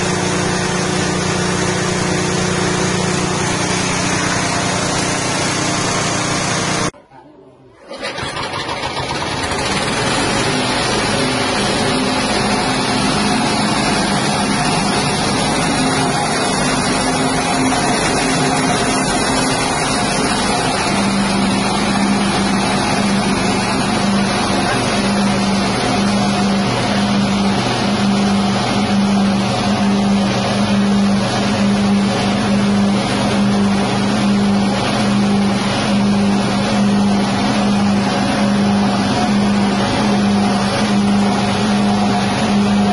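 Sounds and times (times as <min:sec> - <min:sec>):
petrol engine running: 0:00.0 - 0:07.0, 0:07.8 - 0:42.9.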